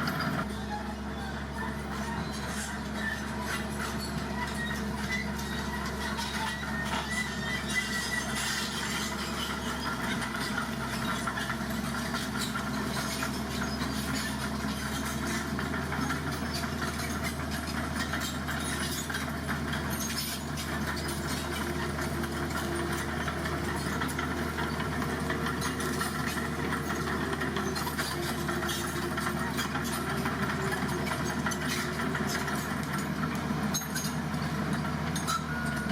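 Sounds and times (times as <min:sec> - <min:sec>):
truck diesel engine droning: 0:00.0 - 0:35.9.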